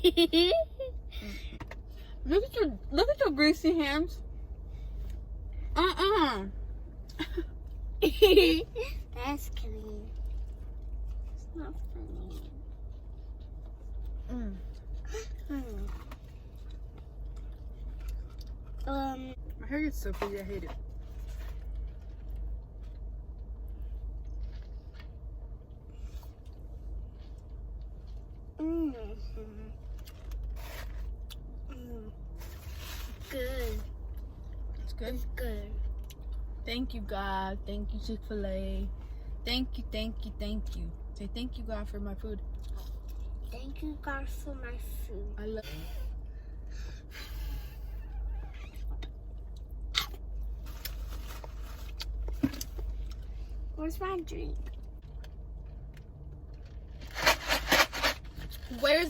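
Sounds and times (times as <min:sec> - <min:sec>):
low hum inside a car: 0:00.0 - 0:59.0.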